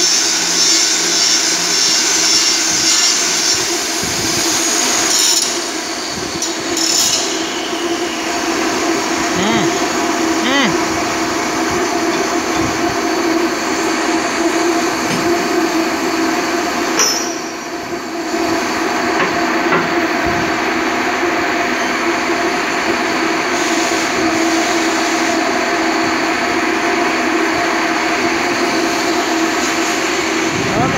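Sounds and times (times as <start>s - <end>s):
workshop machinery drone: 0.0s - 30.9s.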